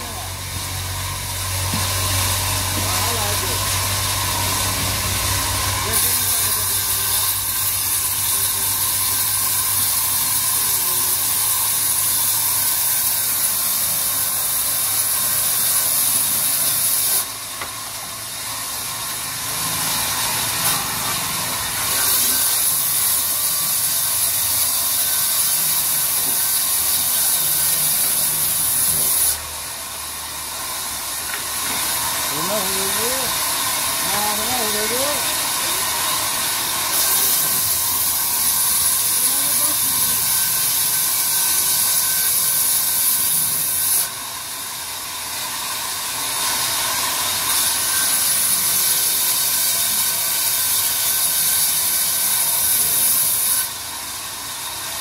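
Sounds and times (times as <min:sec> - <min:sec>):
band saw cutting log: 0:00.0 - 0:55.0.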